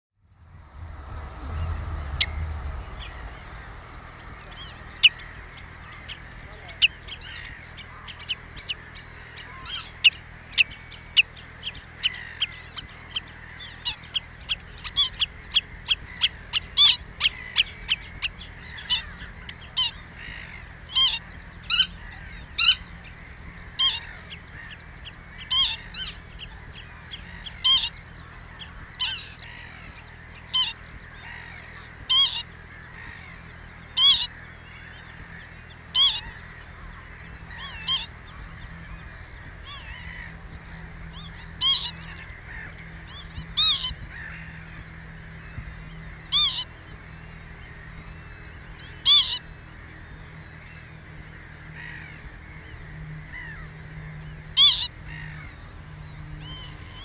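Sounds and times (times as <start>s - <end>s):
redshank calling: 1.1s - 57.0s.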